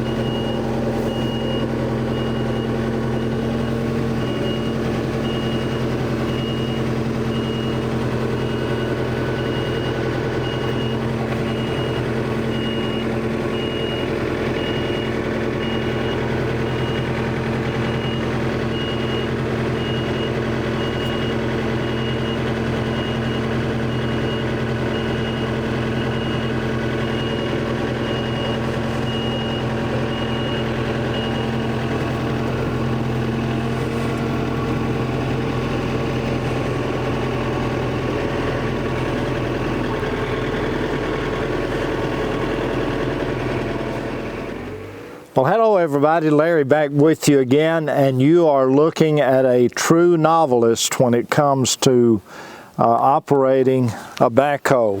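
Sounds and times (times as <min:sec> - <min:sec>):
backhoe engine idling: 0:00.0 - 0:55.0.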